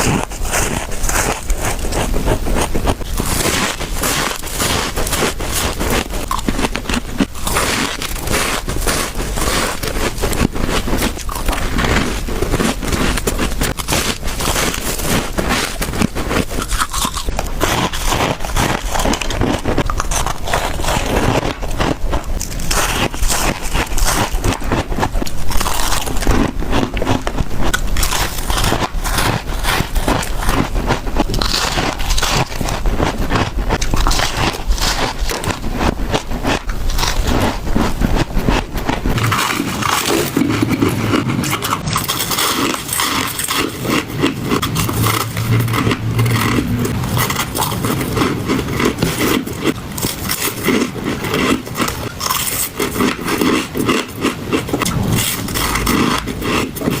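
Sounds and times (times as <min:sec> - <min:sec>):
crunching and chewing ice: 0:00.0 - 0:57.0.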